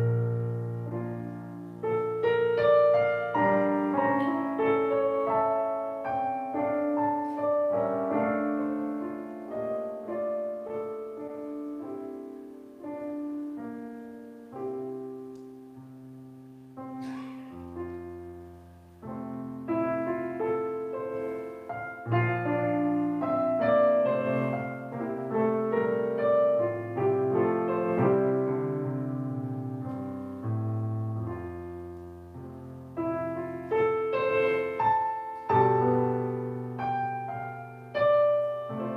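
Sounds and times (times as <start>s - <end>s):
slow gentle piano piece: 0.0s - 38.9s.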